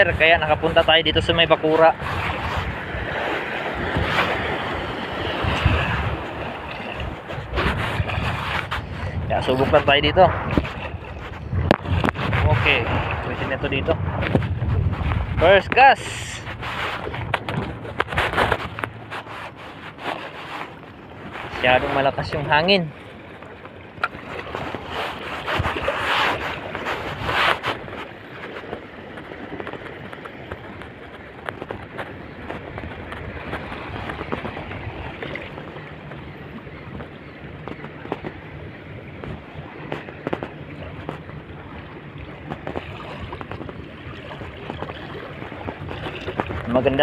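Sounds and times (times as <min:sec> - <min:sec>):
sea water washing around boat: 0:00.0 - 0:47.0
strong wind buffeting microphone: 0:00.0 - 0:47.0.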